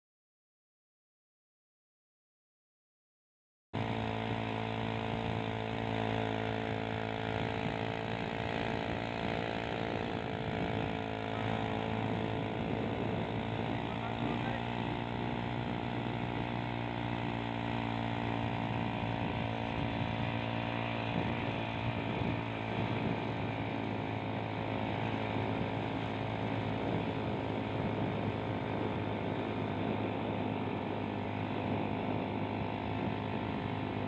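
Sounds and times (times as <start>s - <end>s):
small engine droning: 3.8s - 34.0s.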